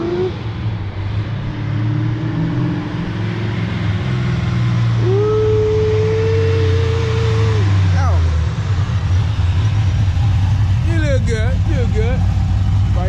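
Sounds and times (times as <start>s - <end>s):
car engine rumbling: 0.0s - 13.0s
supercharger whine: 0.0s - 13.0s.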